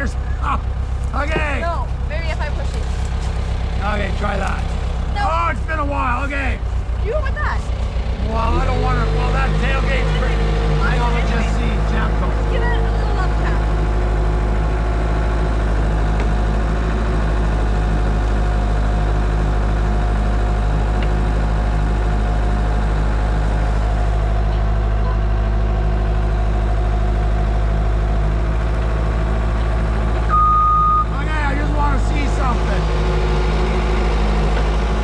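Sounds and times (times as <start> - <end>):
skid steer engine idling: 0.0 - 35.0.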